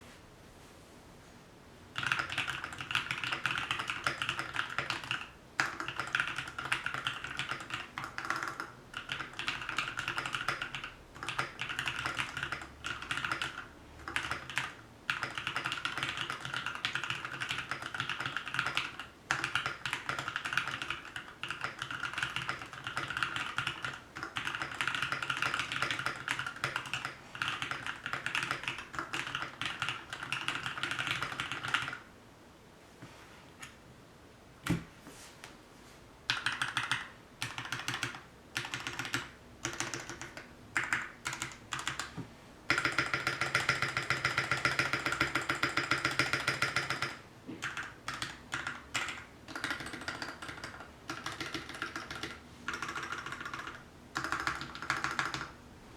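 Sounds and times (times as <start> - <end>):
typing on mechanical keyboard: 2.0 - 32.1, 36.3 - 55.6.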